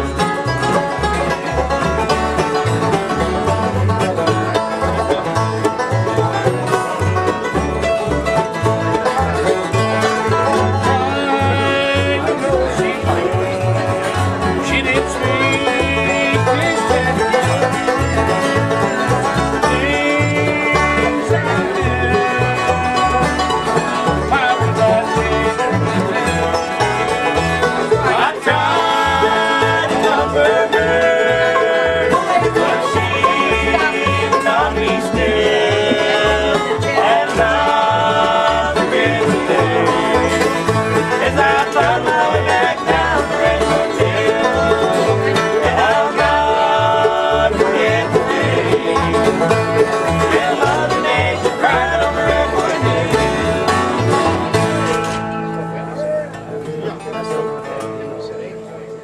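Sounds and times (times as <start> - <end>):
bluegrass band playing: 0.0 - 59.0.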